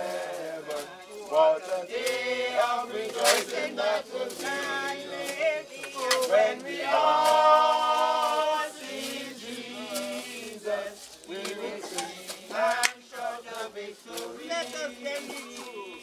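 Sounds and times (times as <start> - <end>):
group singing a hymn: 0.0 - 16.0.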